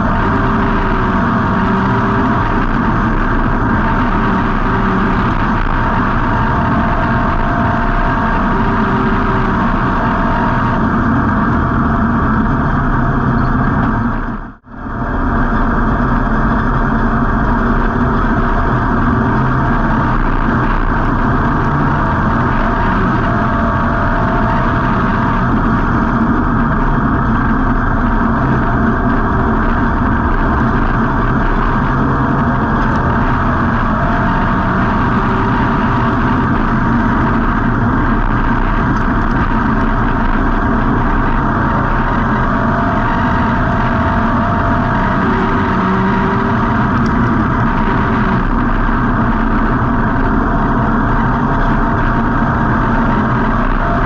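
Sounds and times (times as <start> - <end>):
race car engine running: 0.0 - 54.0
road noise: 0.0 - 54.0
rushing wind: 0.0 - 54.0.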